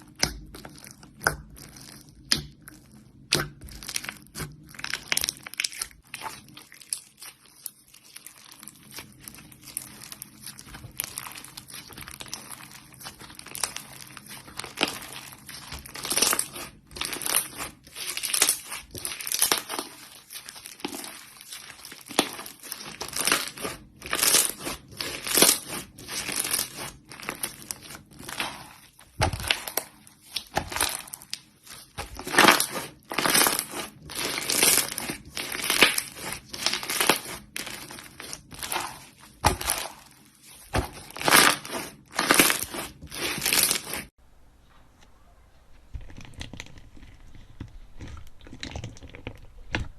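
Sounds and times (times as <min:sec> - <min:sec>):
slime crackling when squeezed: 0:00.0 - 0:44.1.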